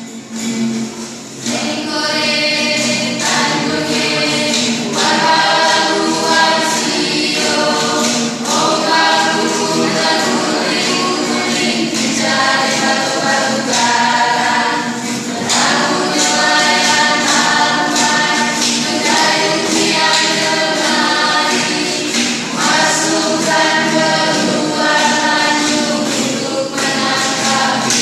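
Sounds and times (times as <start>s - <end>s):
group singing in harmony: 0.1s - 28.0s
struck percussion beat: 1.4s - 28.0s.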